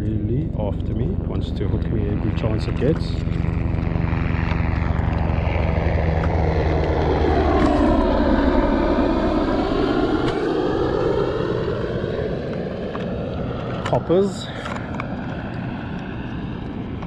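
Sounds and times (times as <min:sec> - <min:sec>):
helicopters flying overhead: 0:00.0 - 0:17.0.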